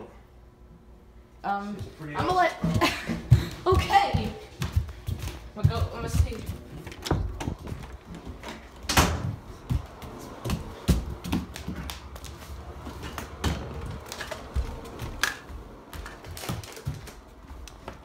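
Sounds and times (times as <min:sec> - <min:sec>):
footsteps on hardwood floor: 0:01.7 - 0:18.0.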